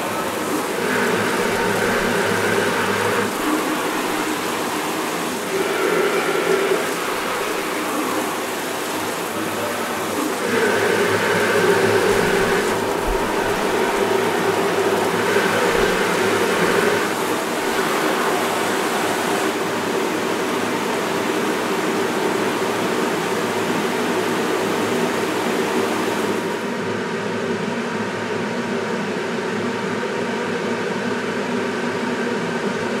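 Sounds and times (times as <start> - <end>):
water spraying from shower heads: 0.0 - 26.6.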